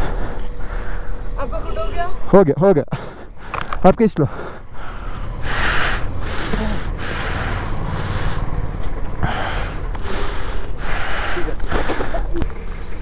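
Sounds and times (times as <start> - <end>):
person breathing hard: 0.0 - 1.3, 2.9 - 12.3
steady low rumble: 0.0 - 13.0.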